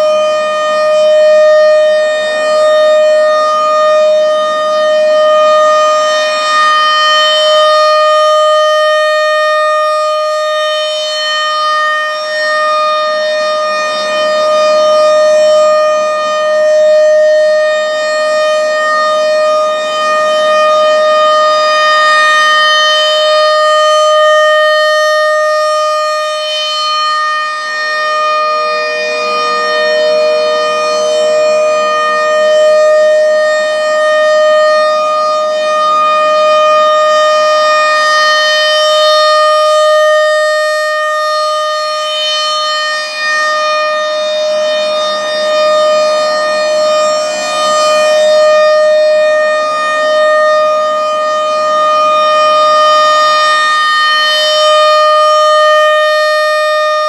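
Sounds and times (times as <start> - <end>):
rotating mechanical siren: 0.0 - 57.0.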